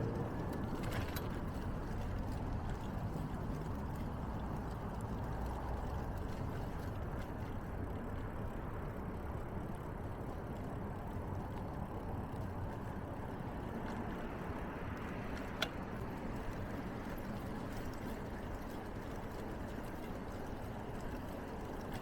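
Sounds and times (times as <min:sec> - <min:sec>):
bicycle tyres rolling on path: 0:00.0 - 0:22.0
wind noise on microphone: 0:00.0 - 0:22.0.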